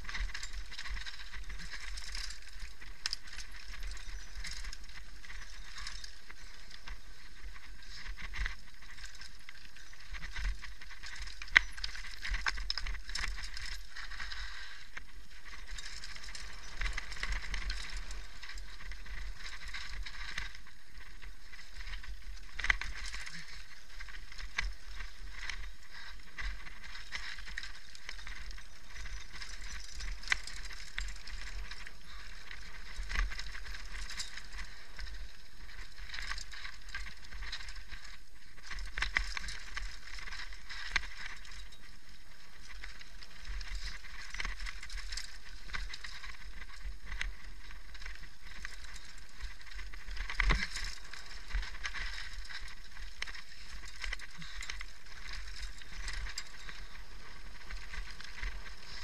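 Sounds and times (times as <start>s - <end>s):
bike rattling: 0.0s - 59.0s
bike tyres on gravel: 0.0s - 59.0s.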